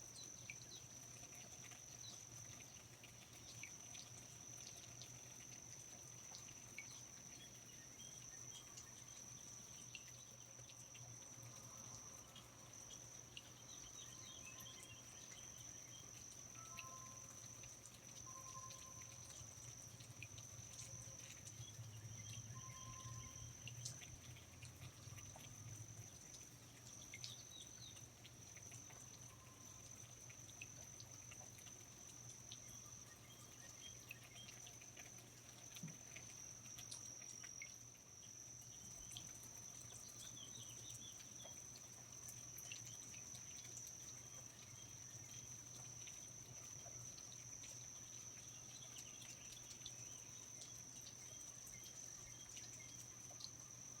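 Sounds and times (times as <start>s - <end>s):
insects trilling: 0.0s - 54.0s
low steady hum: 0.0s - 54.0s
water drips: 0.0s - 54.0s
small chirps: 0.1s - 54.0s.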